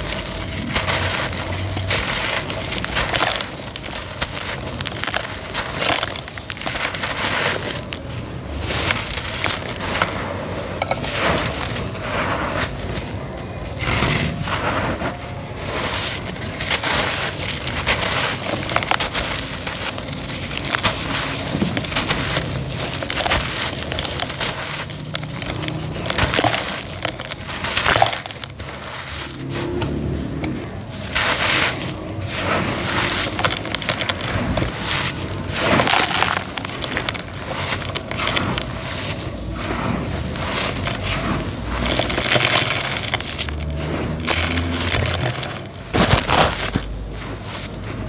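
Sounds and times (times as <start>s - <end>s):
cement crunching and cracking: 0.0s - 48.0s.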